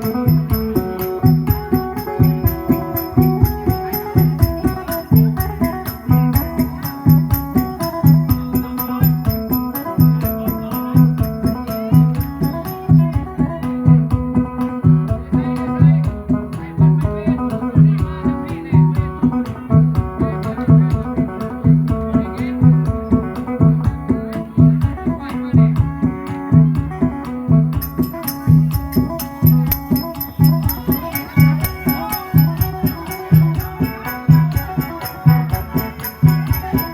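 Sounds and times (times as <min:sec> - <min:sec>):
plucked lute melody: 0:00.0 - 0:36.9
ticking percussion beat: 0:00.0 - 0:36.9.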